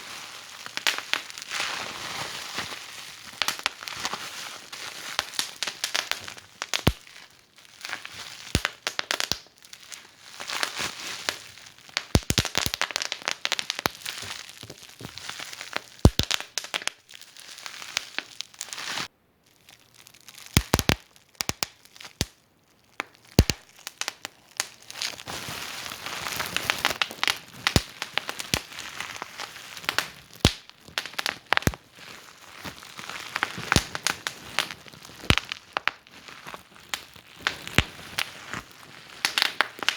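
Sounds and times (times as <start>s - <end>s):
wood fire crackling and popping: 0.6s - 1.4s, 3.2s - 4.2s, 4.9s - 19.1s, 20.4s - 39.9s.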